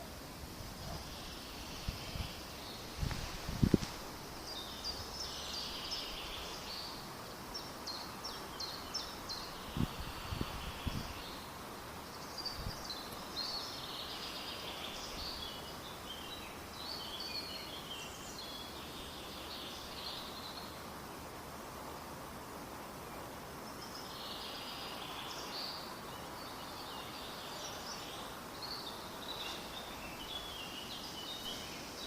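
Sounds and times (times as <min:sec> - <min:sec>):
faint outdoor hiss: 0:00.0 - 0:32.0
birds singing: 0:00.7 - 0:20.9, 0:23.1 - 0:32.0.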